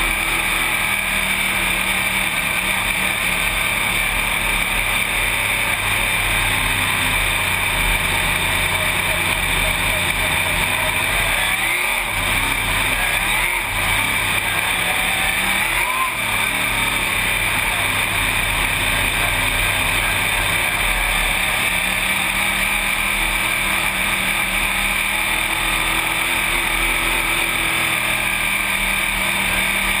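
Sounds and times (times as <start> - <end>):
race car engine running hard: 0.0 - 30.0.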